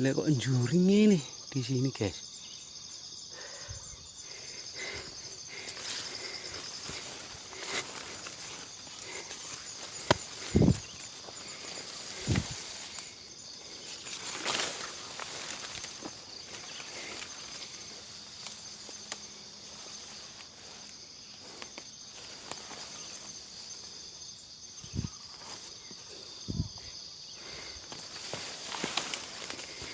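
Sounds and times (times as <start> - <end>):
high-pitched insect chorus: 0.0 - 29.9
footsteps rustling through undergrowth: 4.1 - 29.9.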